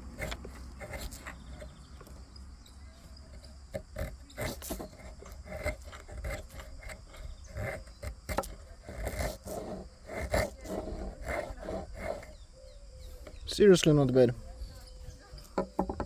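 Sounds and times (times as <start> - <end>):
knife scraping wood: 0.0 - 16.0.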